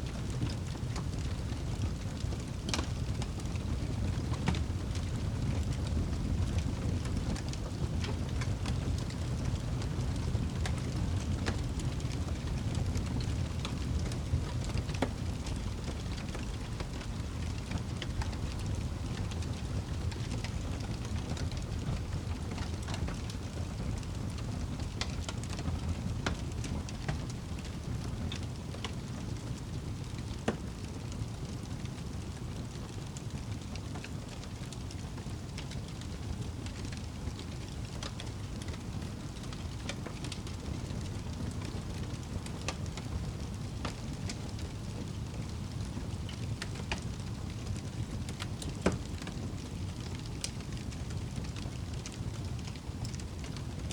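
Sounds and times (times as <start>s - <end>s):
fire crackles and pops: 0.0s - 53.9s
fire rumbling: 0.0s - 53.9s.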